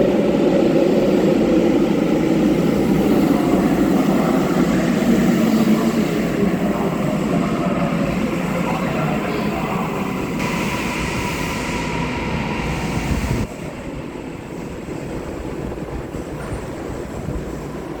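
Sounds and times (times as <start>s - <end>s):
hum of stopped train: 0.0s - 18.0s
train braking to a stop: 0.6s - 17.6s.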